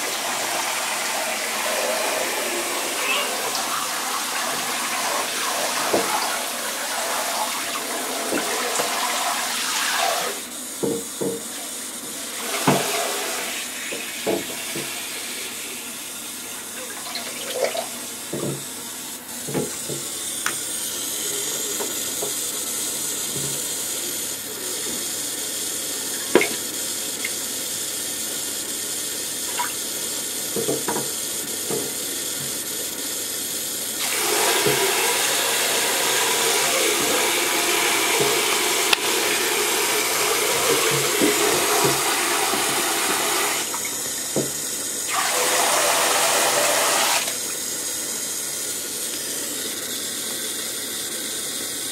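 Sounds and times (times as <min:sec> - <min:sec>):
shower water running into bathtub: 0:00.0 - 0:51.9.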